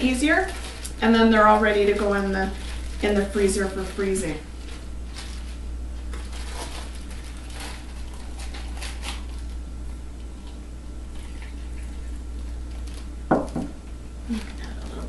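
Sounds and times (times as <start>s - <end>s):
plastic bag crinkling: 0.0s - 13.6s, 14.2s - 15.0s.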